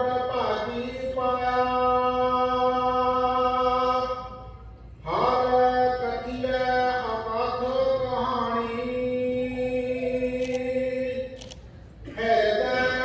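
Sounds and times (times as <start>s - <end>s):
hymn chanting: 0.0s - 11.4s, 12.0s - 13.0s.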